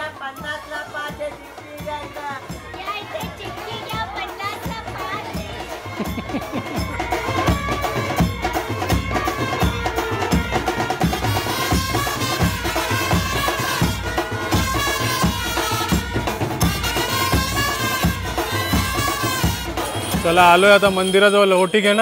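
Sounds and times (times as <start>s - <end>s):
steady drum beat: 0.0s - 22.0s.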